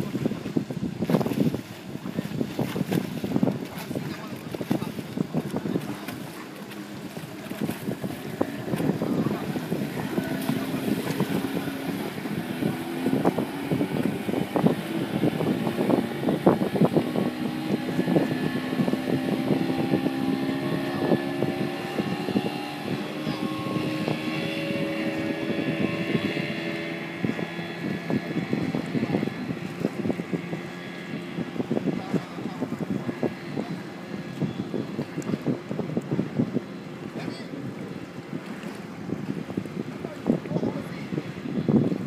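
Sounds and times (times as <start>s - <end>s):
motorboat engine drone: 0.0s - 42.0s
water noise: 0.0s - 42.0s
wind buffeting on microphone: 0.0s - 42.0s.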